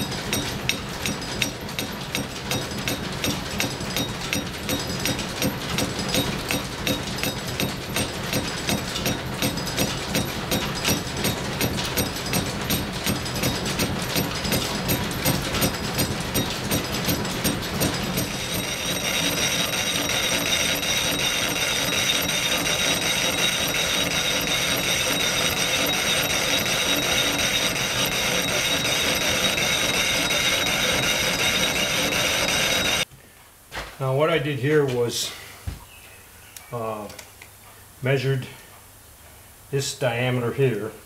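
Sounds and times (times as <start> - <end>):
lathe cutting metal: 0.0 - 33.0.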